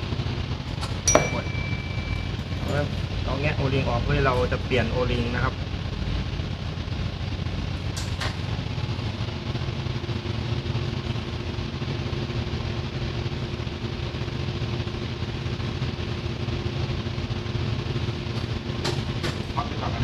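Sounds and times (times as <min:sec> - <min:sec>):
engine room machinery drone: 0:00.0 - 0:20.0.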